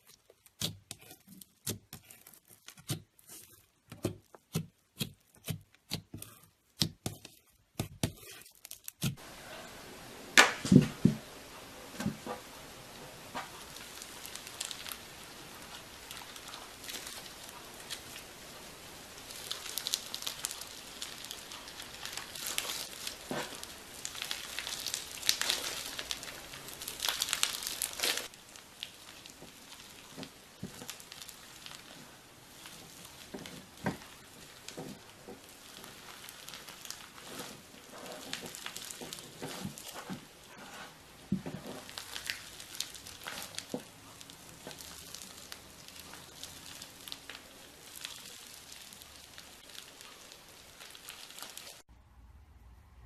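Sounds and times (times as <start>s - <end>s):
slime crackling and popping: 0.0s - 9.2s, 12.0s - 51.9s.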